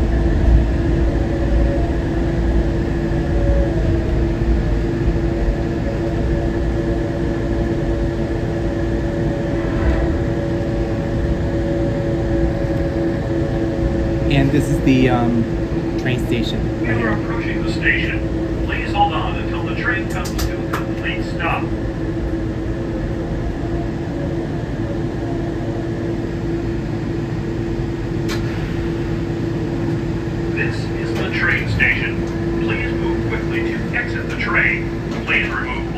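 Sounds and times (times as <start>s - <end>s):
monorail car rumbling: 0.0s - 35.9s
multi-tone drive hum: 0.0s - 35.9s.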